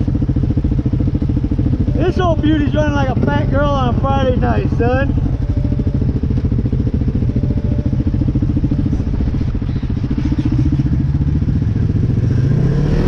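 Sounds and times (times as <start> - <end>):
quad engine idling: 0.0 - 13.0.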